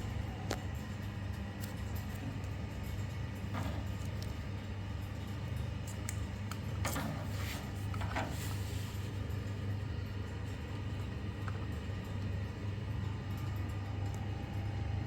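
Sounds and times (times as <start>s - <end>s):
electric fan motor hum: 0.0s - 15.0s.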